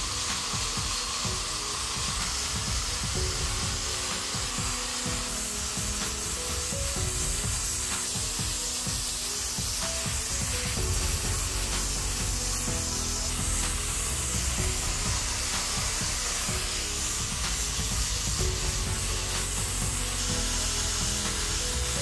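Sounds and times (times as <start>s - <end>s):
background music: 0.0s - 22.0s
grinder sanding metal: 0.0s - 22.0s.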